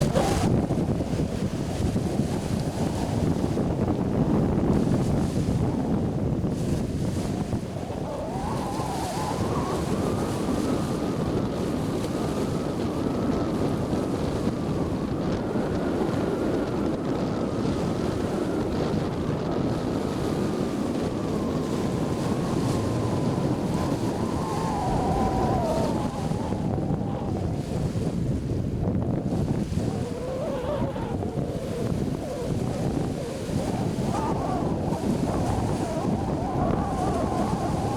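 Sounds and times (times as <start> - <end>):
strong wind buffeting microphone: 0.0 - 37.9
waves washing on shore: 0.0 - 37.9.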